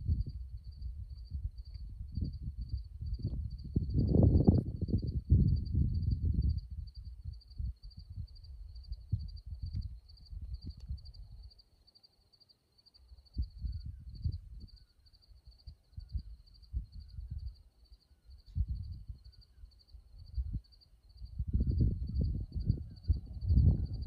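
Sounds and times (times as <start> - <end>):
wind rumbling on microphone: 0.0 - 11.6, 13.1 - 24.0
cricket chirping: 0.0 - 24.0.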